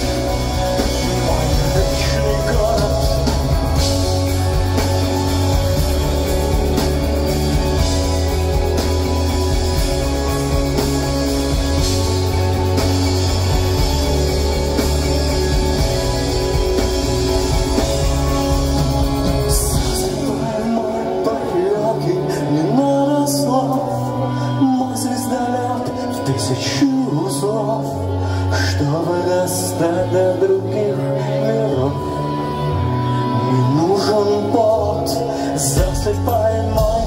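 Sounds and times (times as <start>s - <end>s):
rock band playing live: 0.0s - 37.0s
sustained guitar chords: 0.0s - 37.0s.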